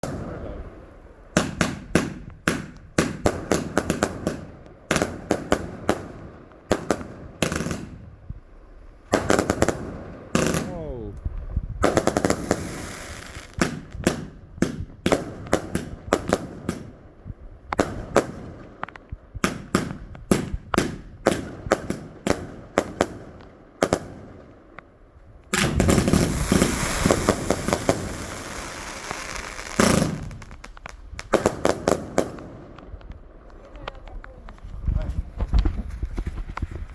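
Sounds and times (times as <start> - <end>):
fireworks bangs: 0.0 - 8.4, 9.0 - 11.0, 11.7 - 24.7, 25.4 - 36.5
fireworks crackling: 0.0 - 36.9.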